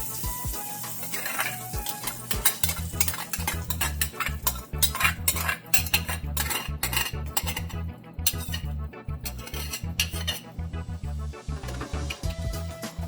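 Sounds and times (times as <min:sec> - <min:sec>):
utensil scraping in cooking pot: 0:00.1 - 0:12.4.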